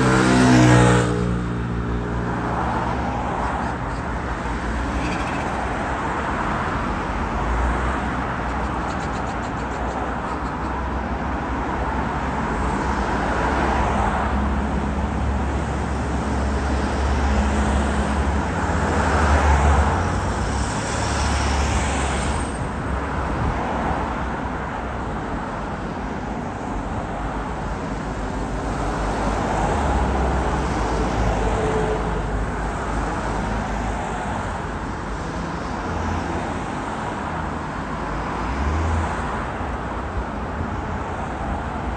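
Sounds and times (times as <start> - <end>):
cars passing by: 0.0 - 41.9
continuous low traffic rumble: 0.0 - 41.9.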